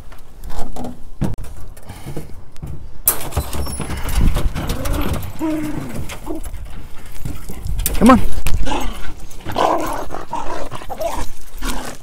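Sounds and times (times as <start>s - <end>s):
wire crates rattling: 0.4s - 12.0s
dog paws scrambling on metal: 1.2s - 12.0s.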